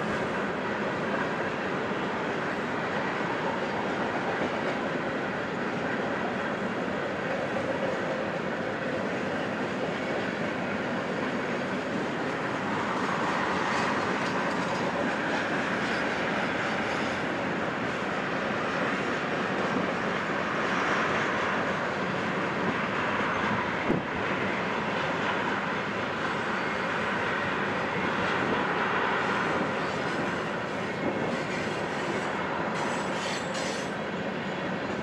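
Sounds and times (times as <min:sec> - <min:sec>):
freight train wheels clickety-clack: 0:00.0 - 0:35.0.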